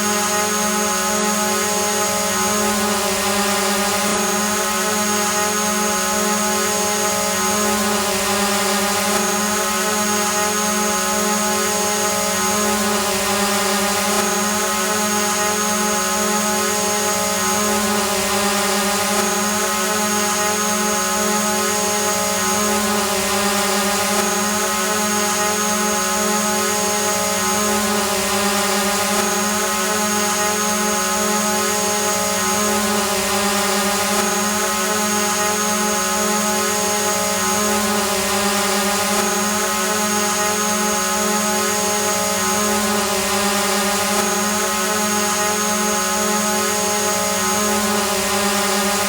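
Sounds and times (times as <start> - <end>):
drone propellers buzzing: 0.0 - 49.0.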